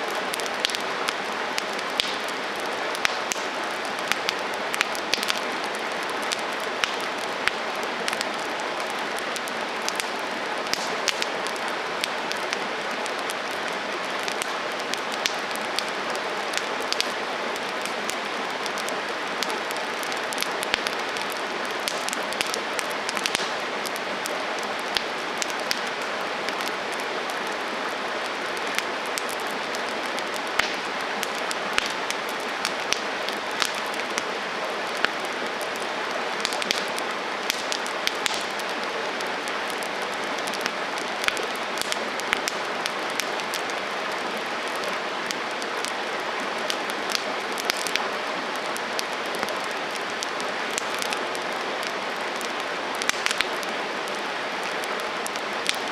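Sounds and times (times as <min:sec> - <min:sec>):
campfire crackling and popping: 0:00.0 - 0:55.9.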